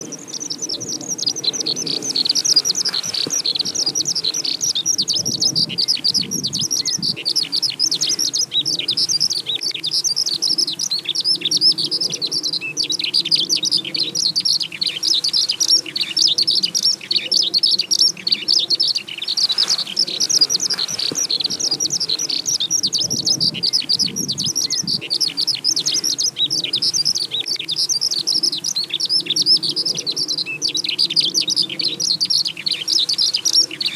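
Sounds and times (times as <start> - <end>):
skylark singing rapid trills: 0.0 - 33.9.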